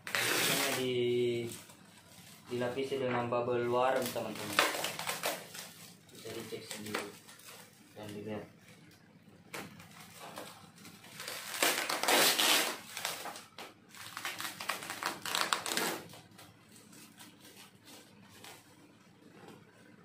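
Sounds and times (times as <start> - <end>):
plastic wrapping crinkling: 0.0 - 8.9, 9.6 - 19.0.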